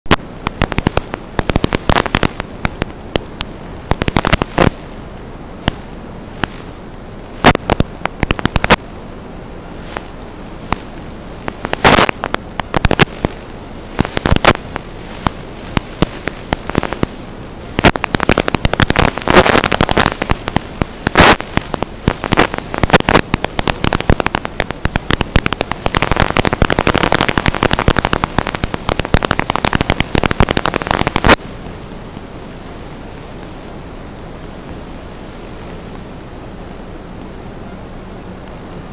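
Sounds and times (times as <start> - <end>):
radio static hiss: 0.0 - 38.9
sharp crackles and pops: 0.0 - 38.9.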